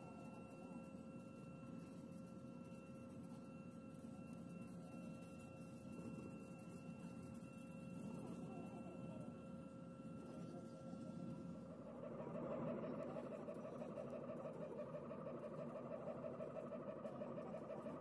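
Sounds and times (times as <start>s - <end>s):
constant whining tones: 0.0s - 18.0s.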